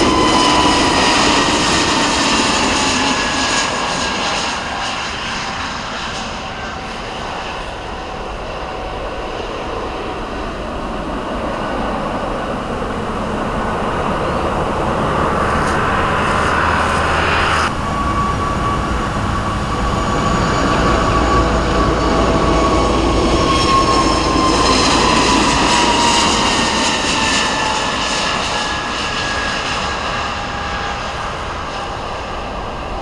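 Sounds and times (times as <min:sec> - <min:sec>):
jet engine whine: 0:00.0 - 0:33.0
jet engines roaring: 0:00.0 - 0:33.0.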